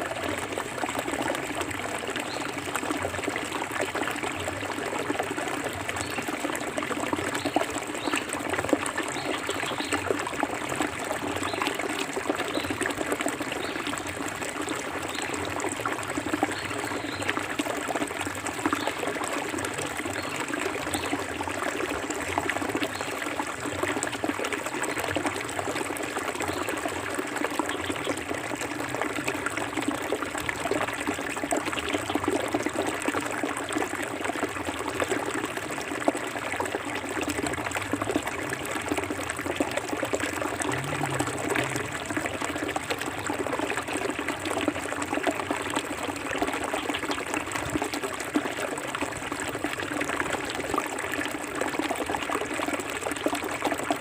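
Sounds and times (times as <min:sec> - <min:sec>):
river babbling over stones: 0:00.0 - 0:54.0.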